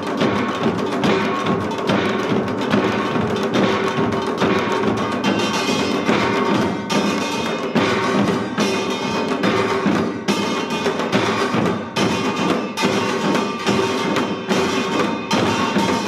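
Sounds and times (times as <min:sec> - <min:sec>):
hourglass drums beating: 0:00.0 - 0:16.0
metal gongs ringing: 0:02.8 - 0:16.0.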